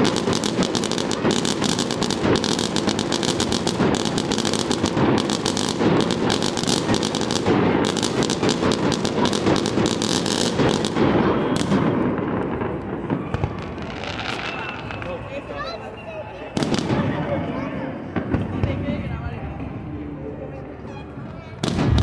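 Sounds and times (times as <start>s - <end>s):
fireworks crackling: 0.0s - 19.2s, 21.6s - 22.0s.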